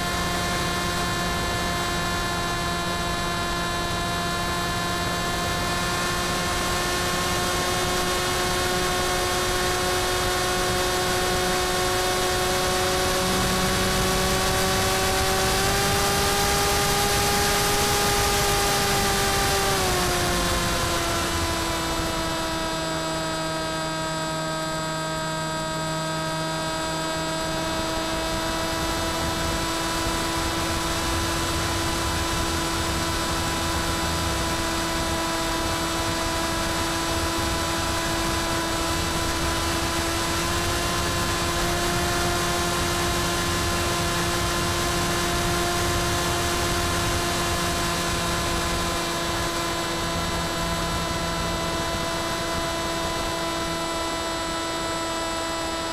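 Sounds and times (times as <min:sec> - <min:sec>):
electric motor propeller whine: 0:00.0 - 0:55.9.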